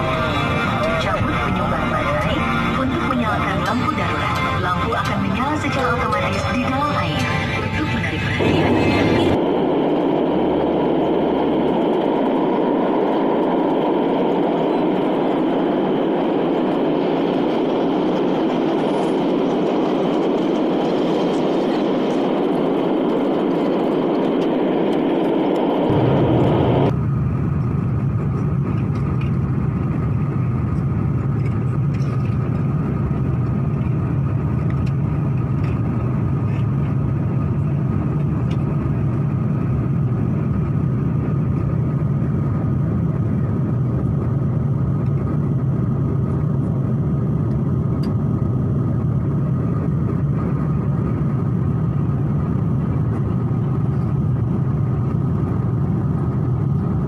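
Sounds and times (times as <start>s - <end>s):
airliner cabin noise: 0.0s - 57.0s
low hum: 0.0s - 57.0s.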